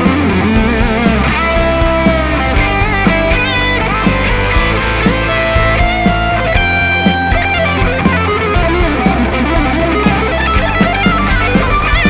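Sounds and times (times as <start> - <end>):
electric guitar playing lead: 0.0 - 12.0.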